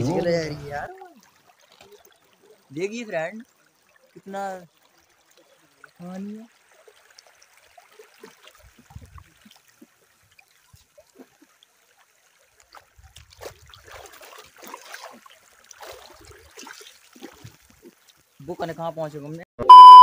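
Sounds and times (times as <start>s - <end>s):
splashing of wading in water: 0.0s - 18.6s.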